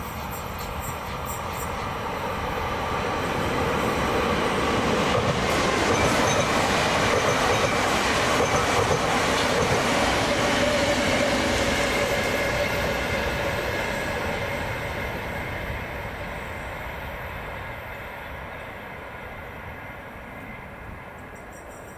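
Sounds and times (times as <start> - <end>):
passing train rolling: 0.0 - 21.9.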